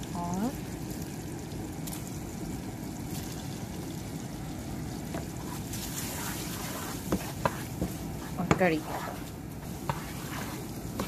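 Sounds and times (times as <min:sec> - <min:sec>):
chilies sizzling in butter: 0:00.0 - 0:11.0.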